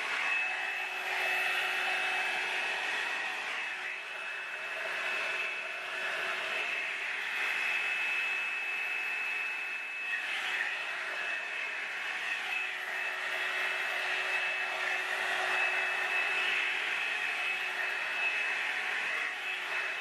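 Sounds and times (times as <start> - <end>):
hot-air brush dryer running: 0.0 - 20.0.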